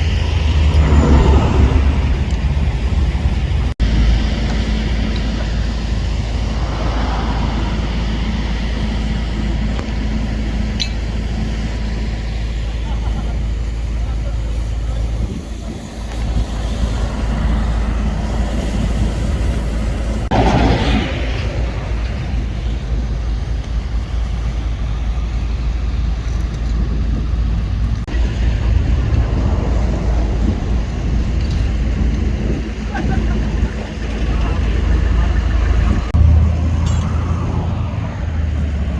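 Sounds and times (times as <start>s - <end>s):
diesel truck engines idling: 0.0s - 38.9s
road noise: 0.0s - 38.9s.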